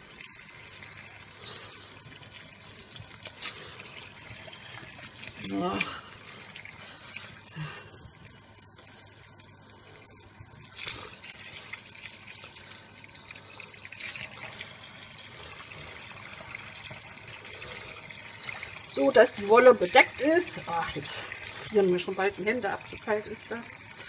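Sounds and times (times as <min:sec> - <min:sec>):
hands pressing wet wool: 0:00.0 - 0:23.7
tap water running into pot: 0:00.0 - 0:24.0.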